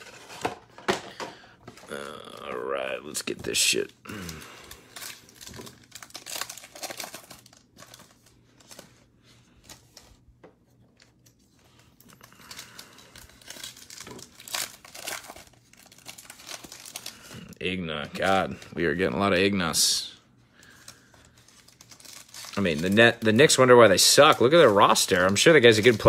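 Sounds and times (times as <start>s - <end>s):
foil wrapper crinkling and tearing: 1.7s - 10.1s, 11.0s - 26.0s.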